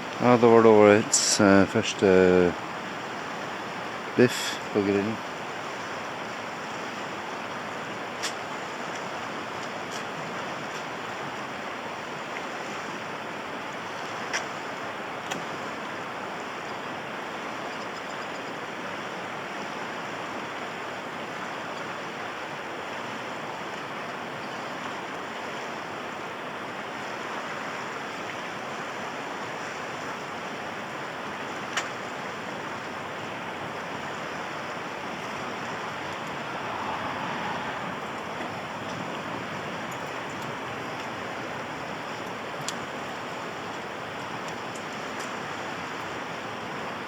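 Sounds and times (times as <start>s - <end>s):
river rushing: 0.0s - 47.0s.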